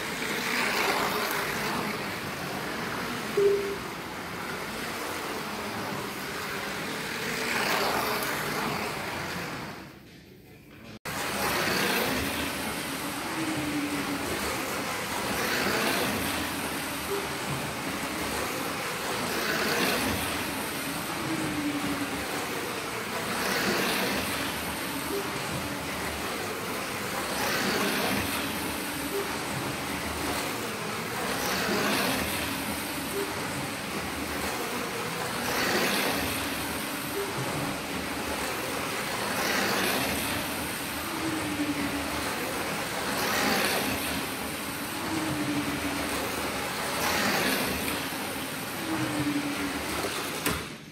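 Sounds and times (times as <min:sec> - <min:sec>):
slot cars whirring: 0:00.0 - 0:50.9.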